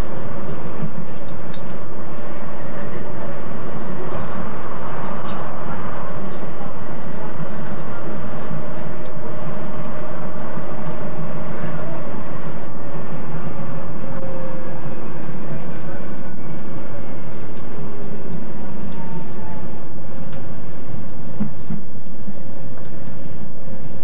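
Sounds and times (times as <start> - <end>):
train running noise: 0.0 - 24.0.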